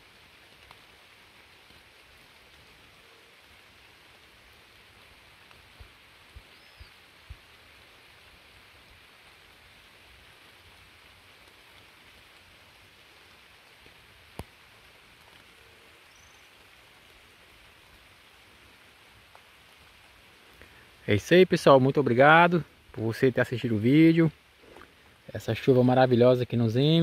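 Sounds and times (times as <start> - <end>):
rain hissing: 0.0 - 27.0.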